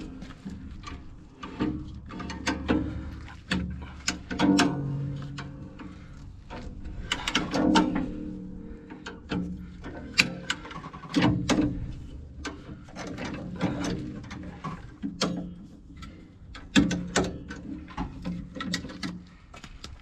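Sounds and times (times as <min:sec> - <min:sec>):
steady low hum: 0:00.0 - 0:20.0
metallic ratcheting clicks and clanks: 0:00.8 - 0:19.2.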